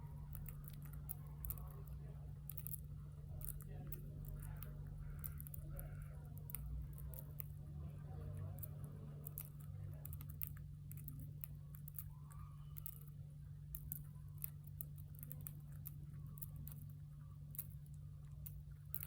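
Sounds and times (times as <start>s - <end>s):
birds cracking seeds: 0.0s - 19.0s
steady low hum: 0.0s - 19.0s.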